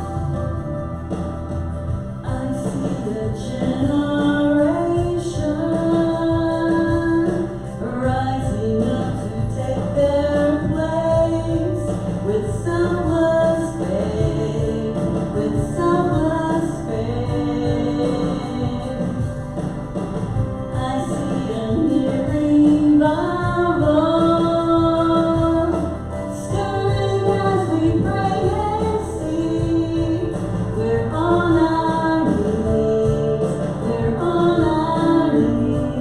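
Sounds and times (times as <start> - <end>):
instrumental backing: 0.0 - 36.0
worship song singing: 0.0 - 36.0.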